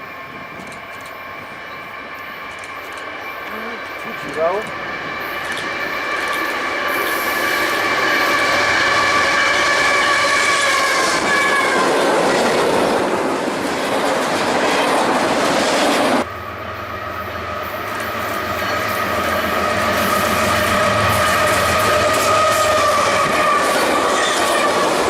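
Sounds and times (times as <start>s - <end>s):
train rolling past on rails: 0.0s - 25.0s.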